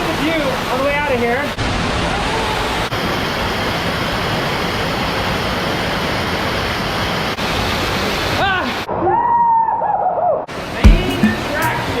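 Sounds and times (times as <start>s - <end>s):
waterfall and stream rushing: 0.0s - 9.0s, 10.5s - 12.0s.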